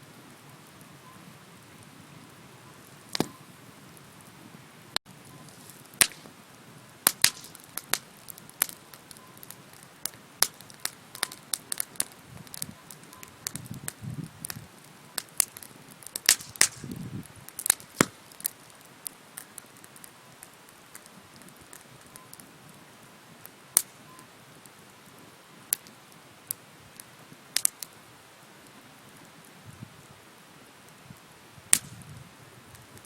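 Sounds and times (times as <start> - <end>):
wood bonfire crackling and popping: 0.0 - 33.0.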